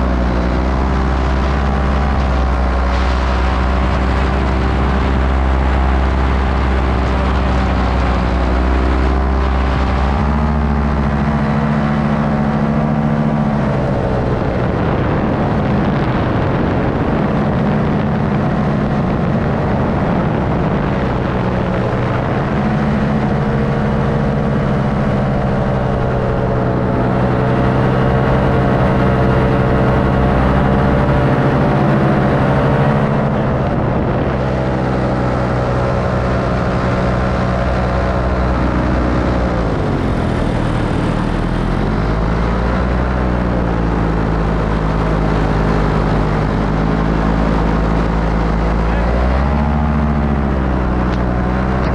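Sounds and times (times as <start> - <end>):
paramotor engine droning: 0.0 - 51.9.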